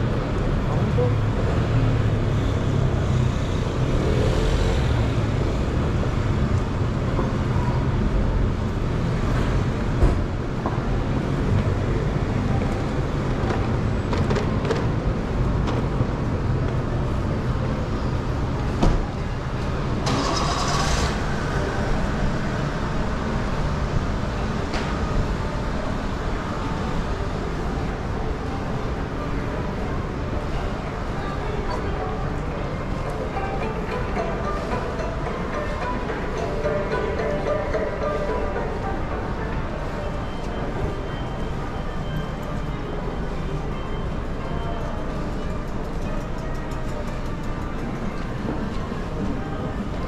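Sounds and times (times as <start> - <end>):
street din rumble: 0.0 - 50.0.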